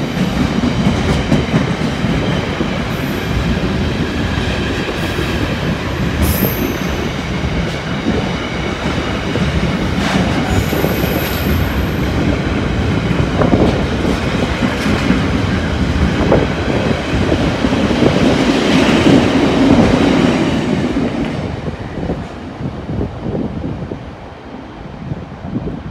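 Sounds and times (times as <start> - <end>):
freight train wheels rumbling: 0.0 - 25.9.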